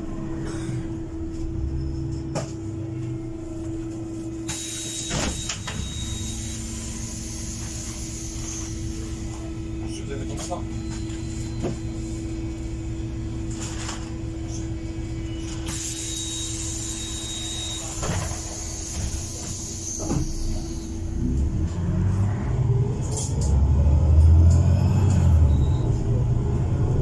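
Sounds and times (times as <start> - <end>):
bus engine low rumble: 0.0 - 27.0
bus interior steady hum: 0.0 - 27.0.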